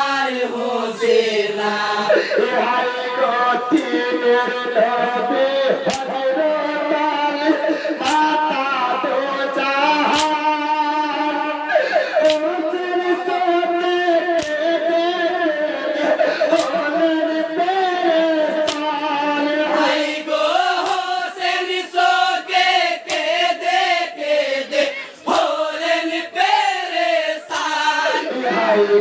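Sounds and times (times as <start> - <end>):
man singing a lament: 0.0 - 29.0.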